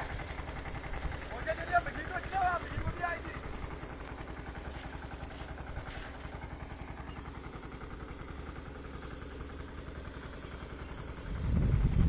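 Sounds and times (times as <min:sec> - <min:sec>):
sprayer pump pulsing: 0:00.0 - 0:12.0
tractor engine running: 0:00.0 - 0:12.0.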